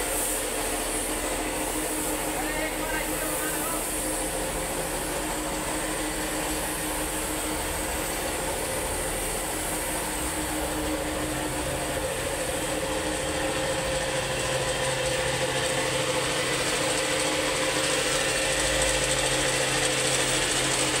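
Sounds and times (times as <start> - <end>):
air compressor running: 0.0 - 21.0.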